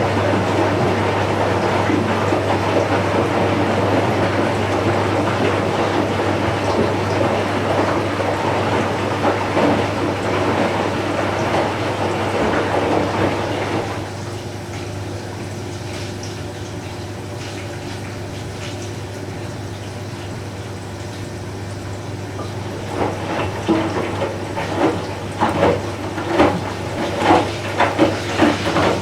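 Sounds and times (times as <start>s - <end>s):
washing machine hum: 0.0s - 29.0s
water rushing into machine: 0.0s - 29.0s.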